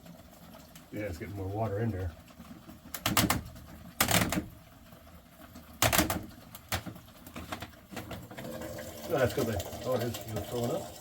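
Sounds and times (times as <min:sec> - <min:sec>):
water gurgling in drain pipe: 0:00.0 - 0:11.0.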